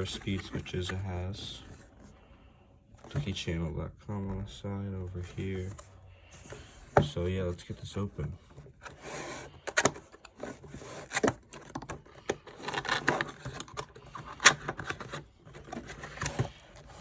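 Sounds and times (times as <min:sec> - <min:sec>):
cardboard rubbing and scraping: 0:00.0 - 0:02.1, 0:05.2 - 0:17.0.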